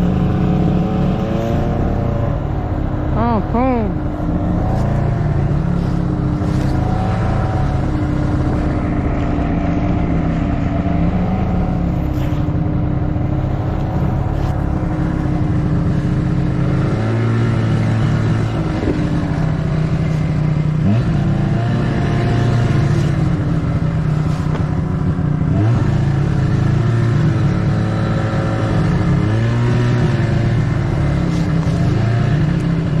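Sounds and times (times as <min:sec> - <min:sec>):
snowmobile engine revving: 0:00.0 - 0:33.0.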